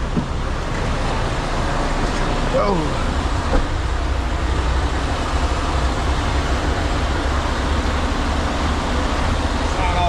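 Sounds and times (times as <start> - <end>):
road and wind noise: 0.0 - 10.0
truck engine rumble: 0.0 - 10.0.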